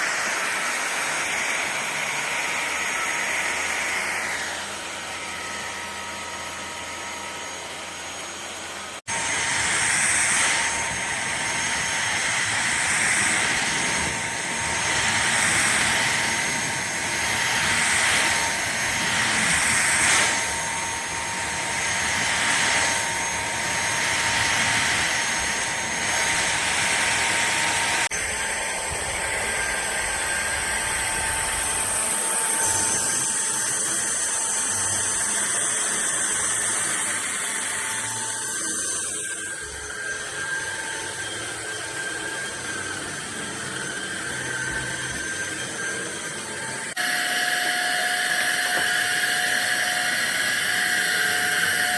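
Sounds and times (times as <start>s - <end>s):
stick vacuum running: 0.0s - 51.9s.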